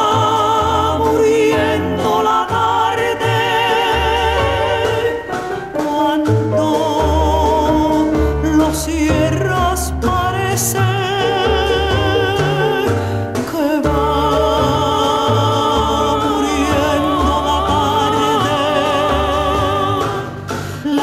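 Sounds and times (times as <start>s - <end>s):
instrumental accompaniment with bass: 0.0s - 21.0s
woman singing with vibrato: 0.0s - 21.0s.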